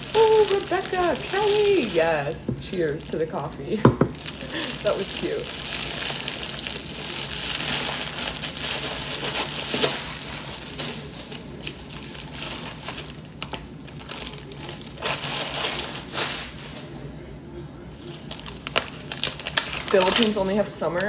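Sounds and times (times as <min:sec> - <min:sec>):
paper and packaging crinkling: 0:00.0 - 0:17.0, 0:17.9 - 0:21.0.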